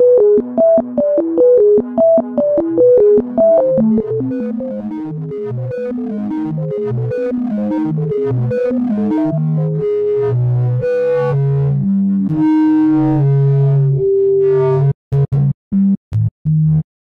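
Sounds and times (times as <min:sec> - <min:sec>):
background music melody: 0:00.0 - 0:15.5.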